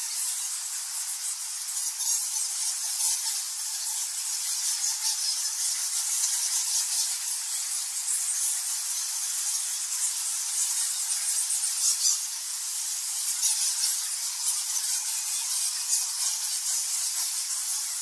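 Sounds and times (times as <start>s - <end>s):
bats squeaking and chittering: 0.0s - 18.0s.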